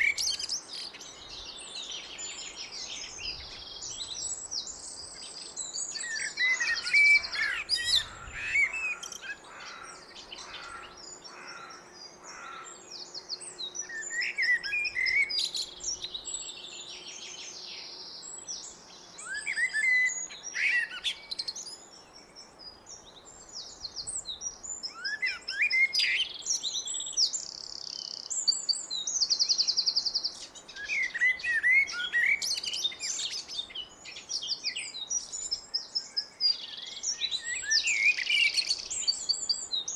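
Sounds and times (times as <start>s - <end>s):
blackbird singing: 0.0s - 39.9s
other birds chirping and trilling: 0.0s - 39.9s.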